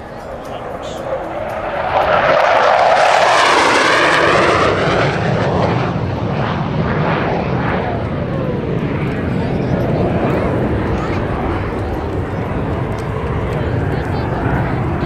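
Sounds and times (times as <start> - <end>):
jet engine flying past: 0.0 - 15.0.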